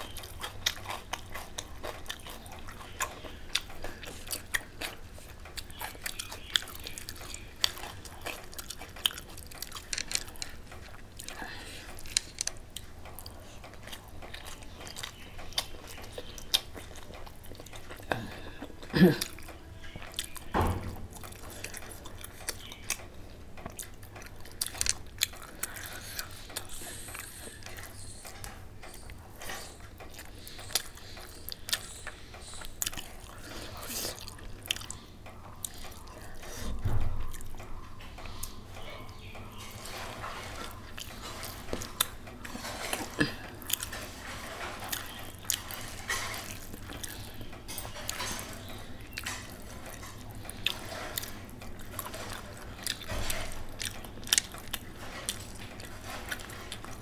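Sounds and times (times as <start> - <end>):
wet chewing and mouth clicks: 0.0 - 20.5, 21.1 - 57.0.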